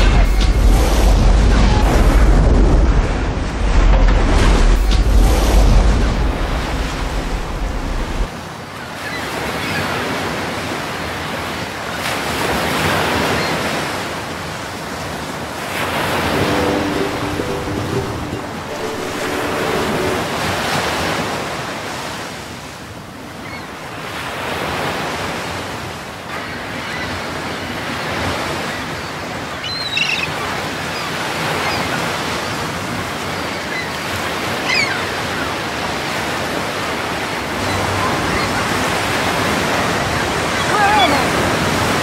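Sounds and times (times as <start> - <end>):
rushing water: 0.0 - 42.0.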